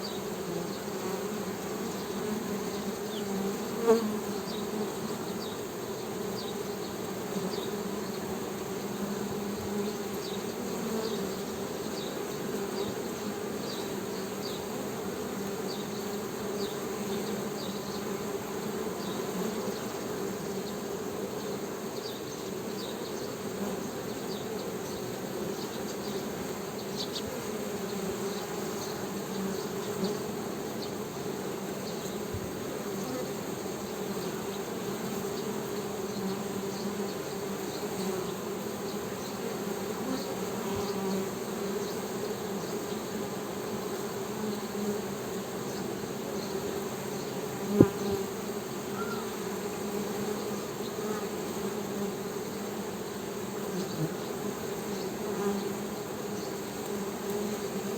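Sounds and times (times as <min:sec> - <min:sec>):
honey bees humming: 0:00.0 - 0:57.9.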